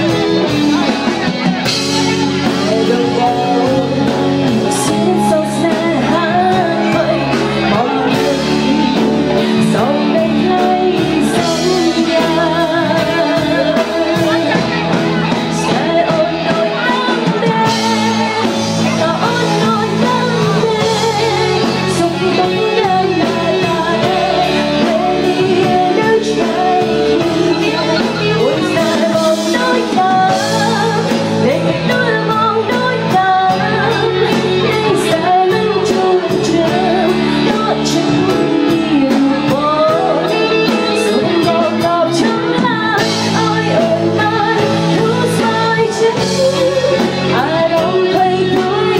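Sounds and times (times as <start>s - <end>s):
band with electric guitar: 0.0s - 48.9s
woman singing: 0.0s - 48.9s.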